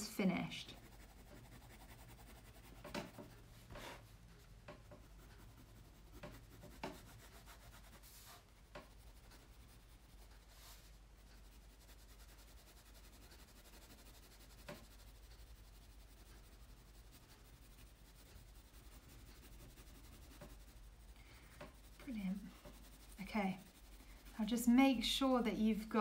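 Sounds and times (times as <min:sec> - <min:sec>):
low steady hum: 0:00.0 - 0:26.0
pencil scratching on paper: 0:00.2 - 0:26.0.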